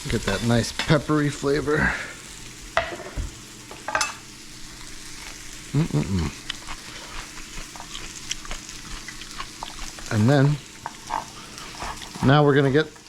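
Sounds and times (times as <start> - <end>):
onions sizzling in a frying pan: 0.0 - 13.0.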